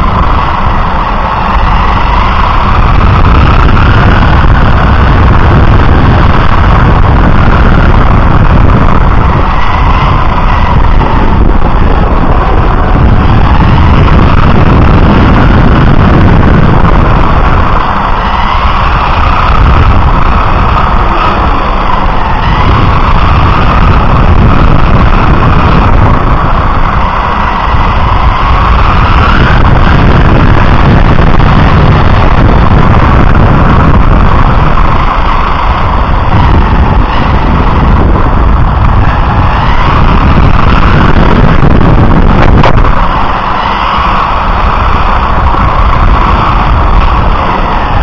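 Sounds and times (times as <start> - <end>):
electric motor whine: 0.0 - 48.0
tyre and wind rumble: 0.0 - 48.0.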